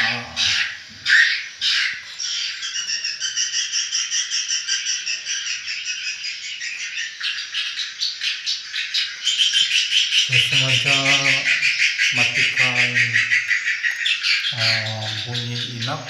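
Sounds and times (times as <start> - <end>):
harsh bird chirps: 0.0 - 16.0
rapid bird twittering chorus: 0.0 - 16.0.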